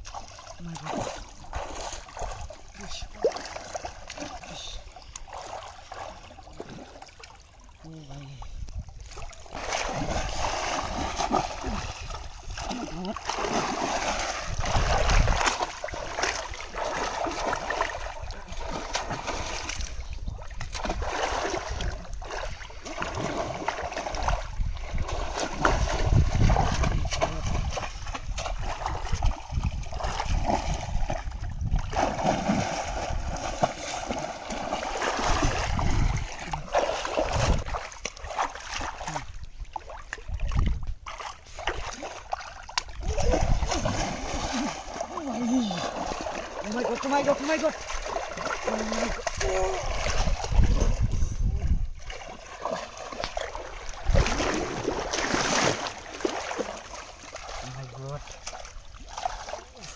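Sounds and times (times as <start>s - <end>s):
pond water splashing and sloshing: 0.0s - 59.9s.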